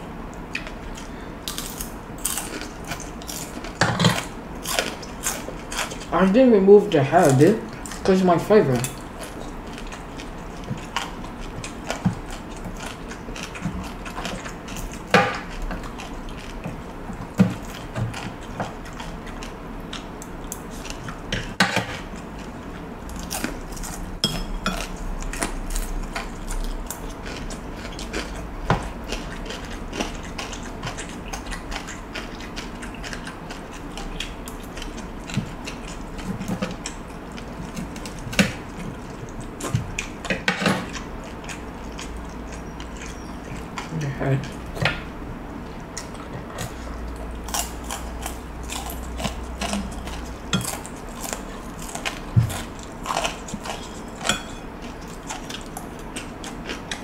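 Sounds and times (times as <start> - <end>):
chewing crispy food: 0.3 - 57.0.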